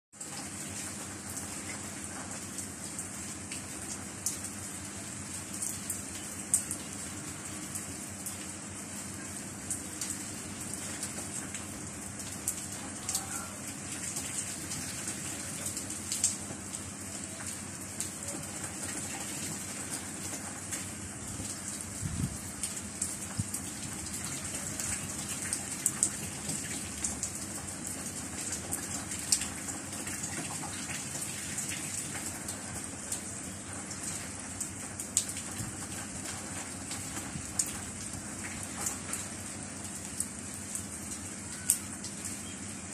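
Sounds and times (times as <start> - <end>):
steady rain hiss: 0.2 - 42.9.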